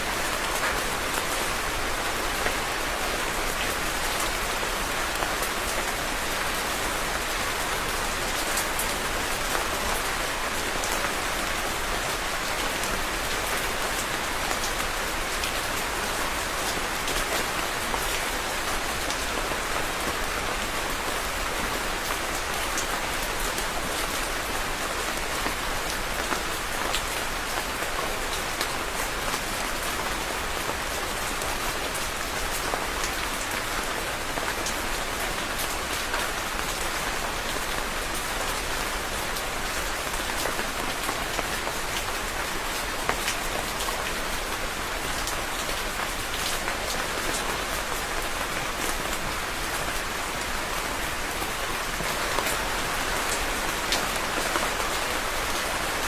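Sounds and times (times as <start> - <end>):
rain drops ticking on a surface: 0.0 - 56.0.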